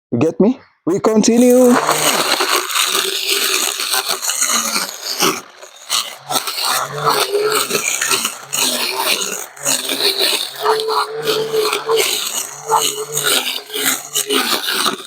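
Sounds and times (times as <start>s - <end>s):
brush cutter cutting grass: 1.4s - 15.0s.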